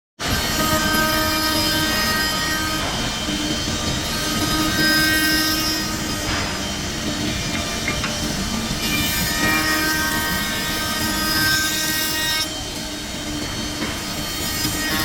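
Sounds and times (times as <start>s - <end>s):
wood router cutting wood: 0.2s - 13.4s.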